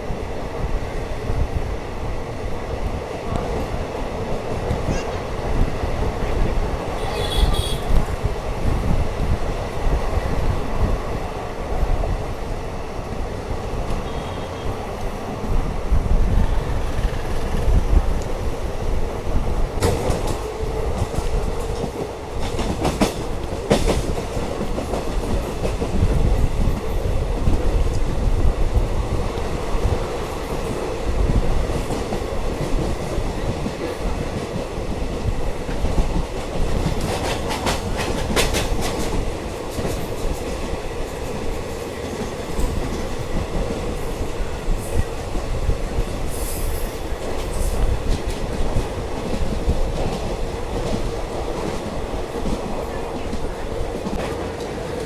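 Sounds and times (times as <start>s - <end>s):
train wheels rumbling on rails: 0.0s - 55.0s
wheels clickety-clack over rail joints: 0.1s - 55.0s.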